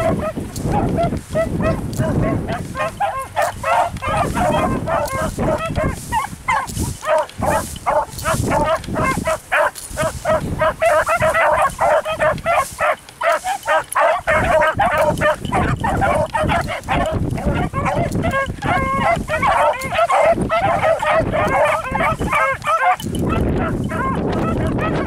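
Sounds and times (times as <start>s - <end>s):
dogs baying: 0.0s - 25.0s
wind rumble on microphone: 0.0s - 25.0s.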